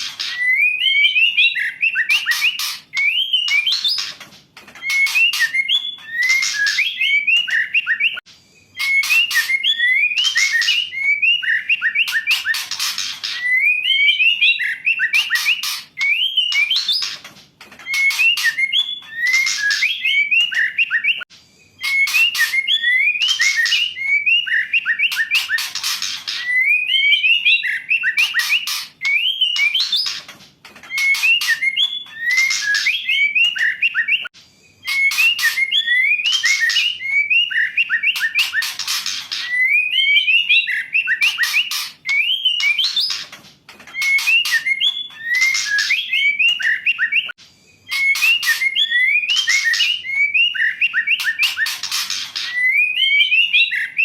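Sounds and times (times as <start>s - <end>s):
bird whistled calls and chatter: 0.0s - 54.0s.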